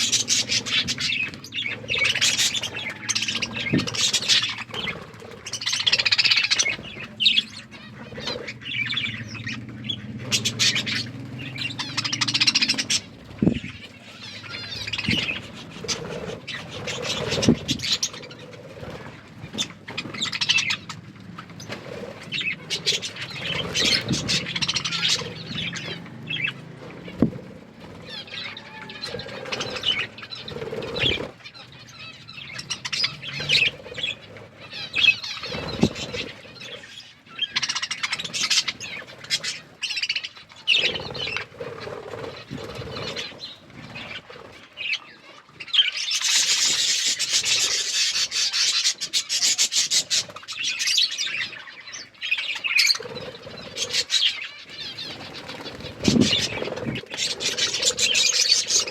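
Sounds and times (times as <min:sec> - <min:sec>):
budgies chirping and chattering: 0:00.0 - 0:58.9.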